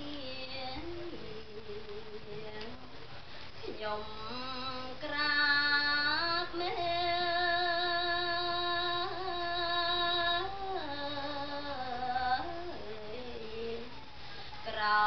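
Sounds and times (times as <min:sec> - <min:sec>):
woman chanting verse: 0:00.0 - 0:03.0, 0:03.6 - 0:15.0.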